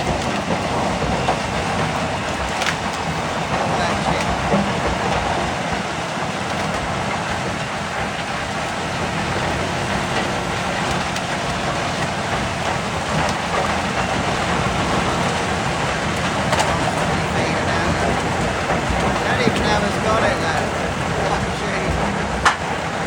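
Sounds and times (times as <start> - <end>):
wood chipper running: 0.0 - 23.0.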